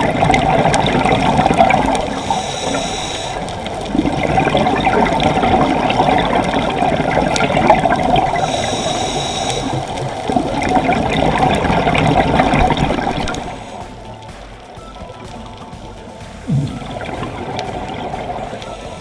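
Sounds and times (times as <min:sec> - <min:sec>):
water rushing and churning: 0:00.0 - 0:19.0.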